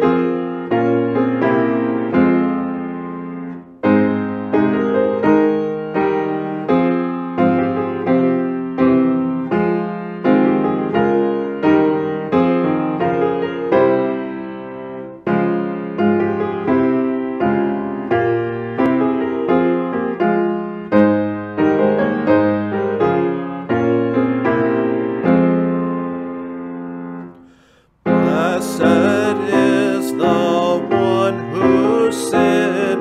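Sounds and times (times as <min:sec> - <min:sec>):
piano playing hymn chords: 0:00.0 - 0:33.0.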